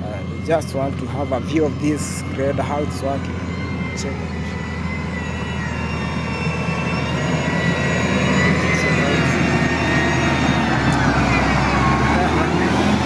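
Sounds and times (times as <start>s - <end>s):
diesel engine droning: 0.0s - 13.0s
high engine whine: 0.0s - 13.0s.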